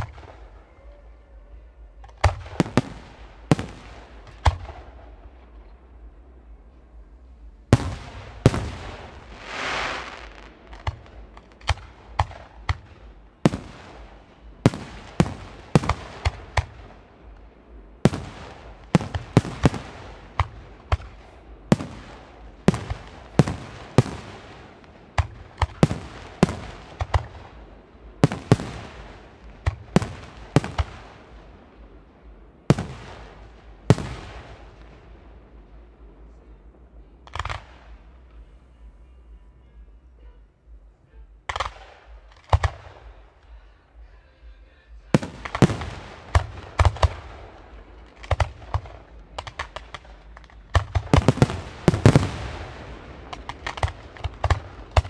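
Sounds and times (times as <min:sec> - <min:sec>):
fireworks bursting: 0:00.0 - 0:38.7, 0:41.5 - 0:44.2, 0:44.9 - 0:55.0.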